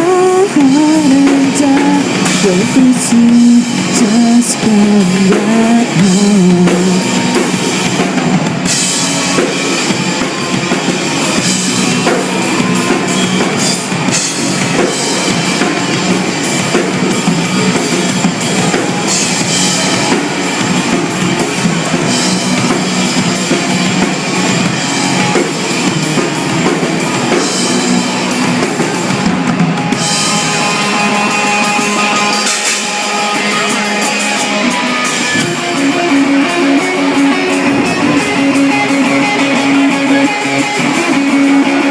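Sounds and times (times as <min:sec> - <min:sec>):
drum kit playing: 0:00.0 - 0:41.9
rock guitar: 0:00.0 - 0:41.9.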